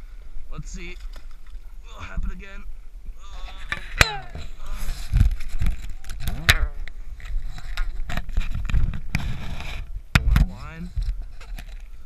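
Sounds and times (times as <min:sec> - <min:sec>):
wind rumble on microphone: 0:02.0 - 0:12.0.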